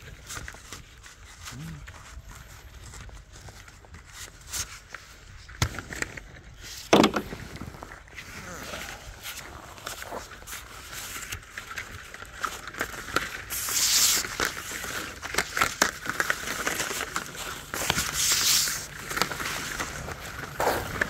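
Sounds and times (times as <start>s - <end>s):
cart wheeled over gravel: 0.0s - 21.0s.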